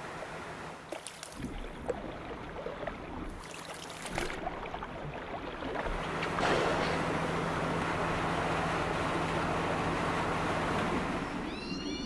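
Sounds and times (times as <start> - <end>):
water splashing around boat hull: 0.1 - 11.5.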